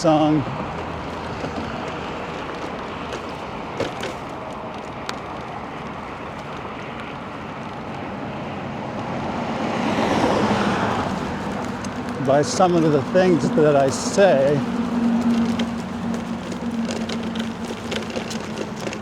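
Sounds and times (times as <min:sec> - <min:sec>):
wind and tyre noise: 0:00.0 - 0:19.0
faint clicks: 0:00.4 - 0:08.2, 0:10.2 - 0:19.0.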